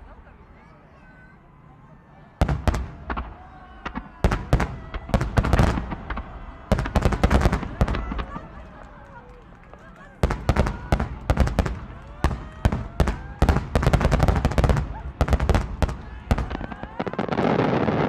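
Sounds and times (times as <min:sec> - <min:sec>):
fireworks exploding: 0:02.4 - 0:18.0.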